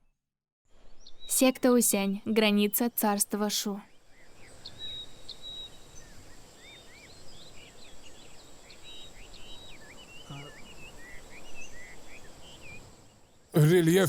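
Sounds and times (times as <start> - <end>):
small birds chirping: 1.0 - 13.2
outdoor ambience hiss: 1.3 - 14.0.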